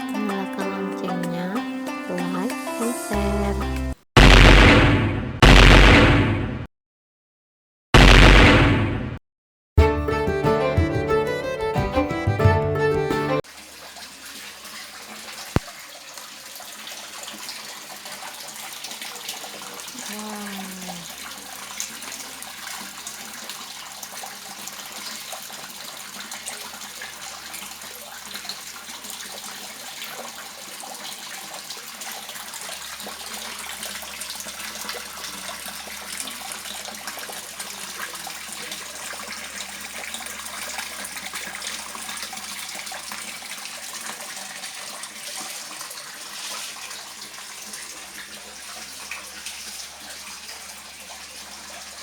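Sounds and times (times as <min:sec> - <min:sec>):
water splashing and trickling: 0:00.0 - 0:04.0, 0:09.8 - 0:52.0.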